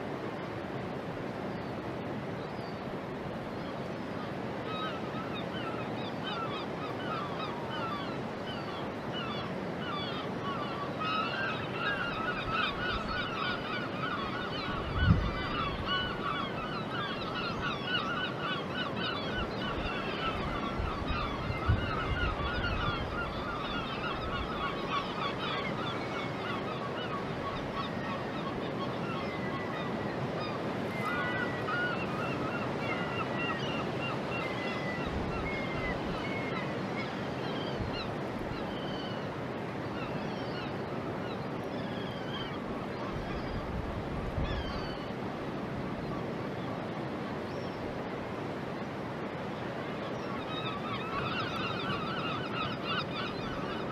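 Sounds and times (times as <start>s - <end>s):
flock of birds calling: 4.3s - 46.6s, 48.4s - 53.9s.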